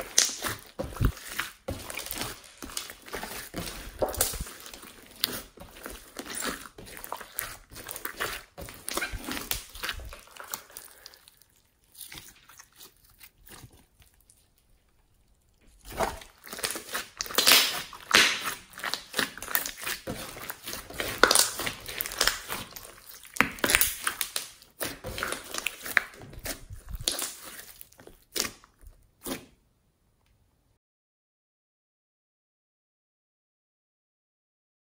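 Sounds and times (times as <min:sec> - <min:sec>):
slime squishing and crackling: 0:00.0 - 0:29.5.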